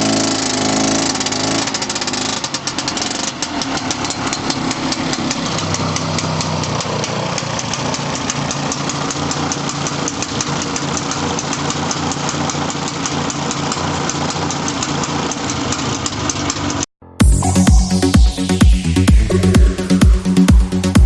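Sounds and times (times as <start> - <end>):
snowmobile engine idling: 0.0 - 21.0.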